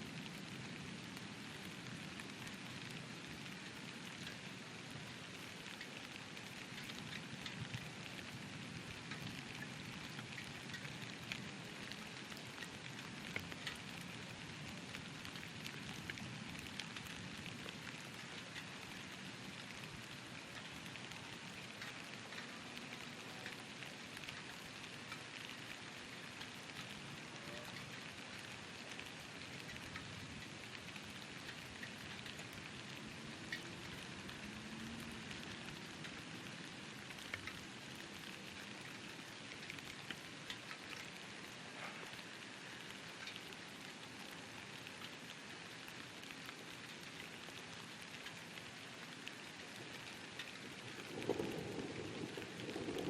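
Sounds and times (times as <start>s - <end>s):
rain falling: 0.0s - 53.0s
raindrop ticks: 0.0s - 53.0s.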